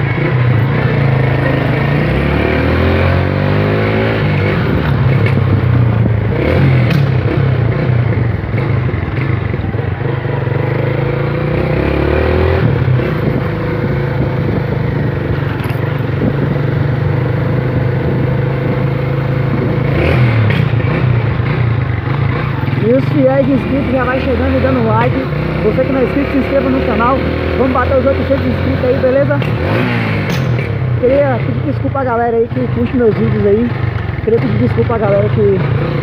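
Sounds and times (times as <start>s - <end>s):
motorcycle engine running: 0.0s - 36.0s
road and wind noise: 0.0s - 36.0s.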